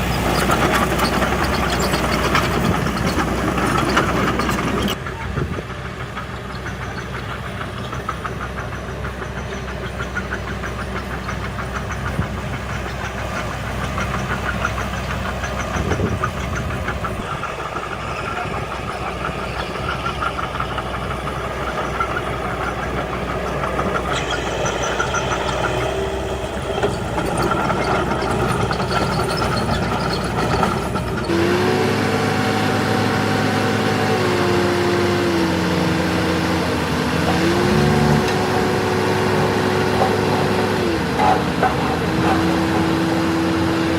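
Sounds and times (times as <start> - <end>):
heavy diesel machinery clattering: 0.0 - 43.9.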